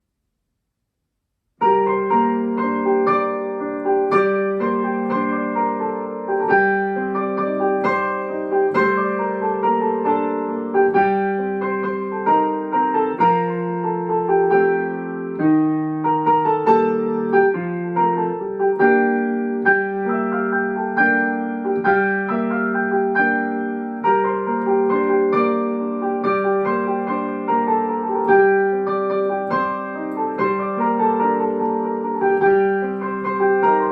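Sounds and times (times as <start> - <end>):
keyboard melody: 1.6 - 33.9.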